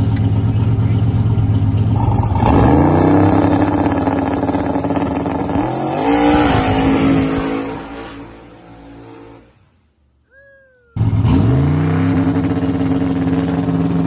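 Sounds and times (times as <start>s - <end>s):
truck engine revving: 0.0s - 9.6s, 11.0s - 14.0s.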